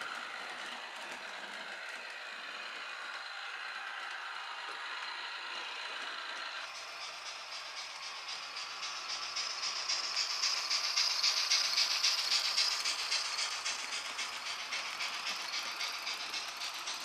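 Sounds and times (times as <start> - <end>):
model steam train chuffing: 0.0 - 17.0
model train rattling on track: 0.0 - 17.0.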